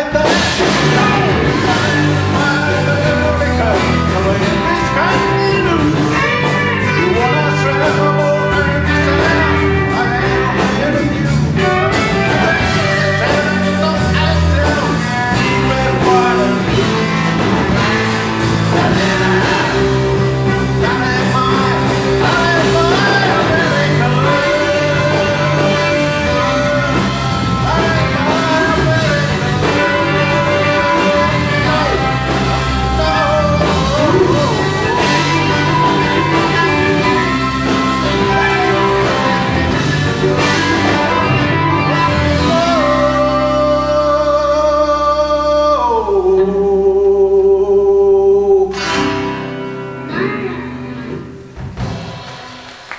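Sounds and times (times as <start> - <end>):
country band playing: 0.0 - 52.9.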